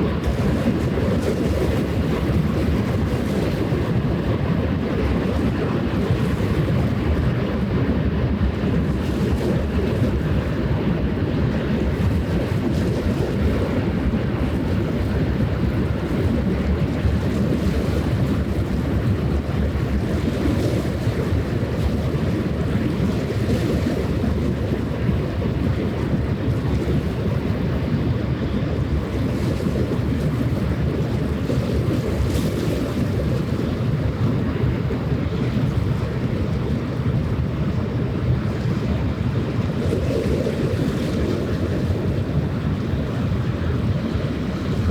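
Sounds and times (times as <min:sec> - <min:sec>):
waves washing along shore: 0:00.0 - 0:44.9
wind on microphone: 0:00.0 - 0:44.9.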